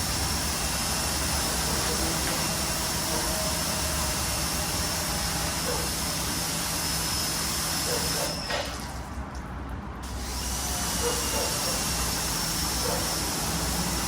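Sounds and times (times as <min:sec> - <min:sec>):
pressure washer spraying water: 0:00.0 - 0:08.9, 0:10.0 - 0:14.0.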